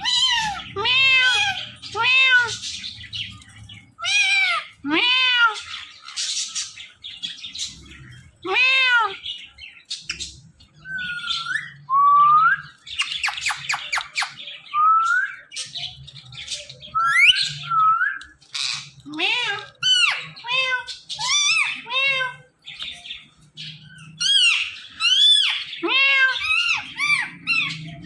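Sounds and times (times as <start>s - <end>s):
parrots squawking and whistling: 0.0s - 28.0s.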